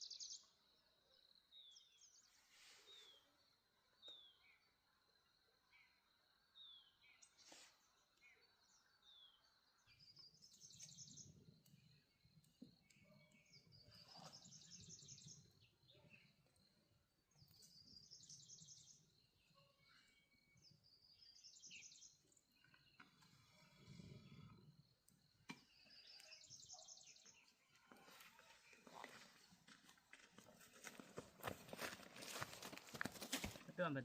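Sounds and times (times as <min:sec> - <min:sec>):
bird song trill: 0:00.0 - 0:04.8, 0:05.7 - 0:29.6.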